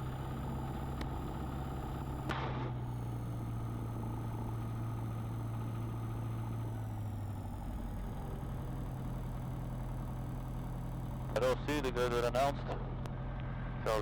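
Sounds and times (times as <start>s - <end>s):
light aircraft engine running: 0.0s - 14.0s.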